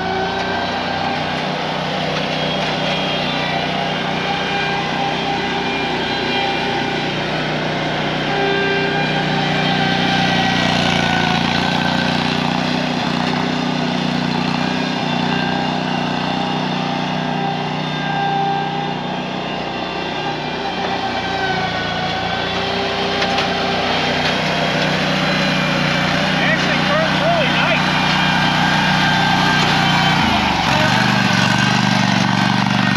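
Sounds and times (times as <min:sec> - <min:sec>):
riding lawn mower engine: 0:00.0 - 0:32.9.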